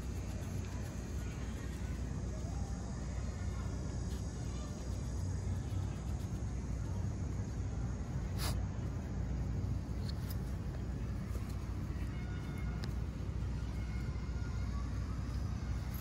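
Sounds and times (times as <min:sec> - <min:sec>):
low city rumble: 0:00.0 - 0:16.0.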